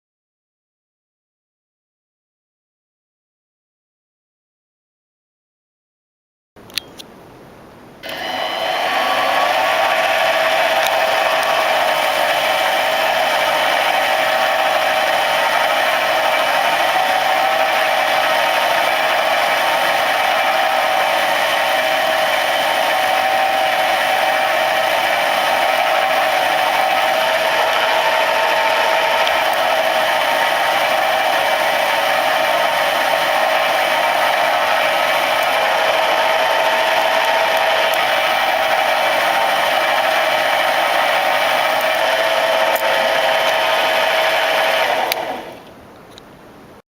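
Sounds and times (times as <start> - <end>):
model engine high-pitched buzz: 8.0 - 45.7.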